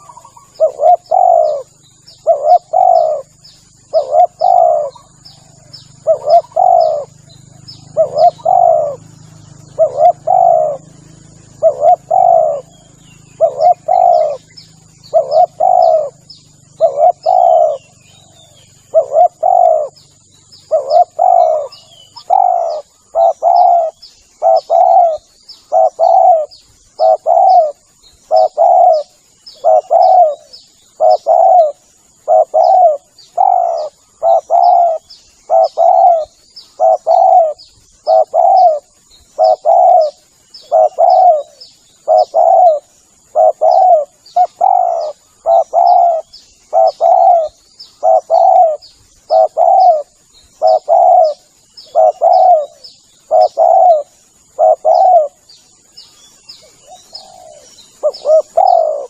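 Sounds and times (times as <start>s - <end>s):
dove cooing: 0.0s - 55.6s, 56.5s - 59.0s
faint high chirps: 0.0s - 59.0s
thin high hiss: 0.0s - 59.0s.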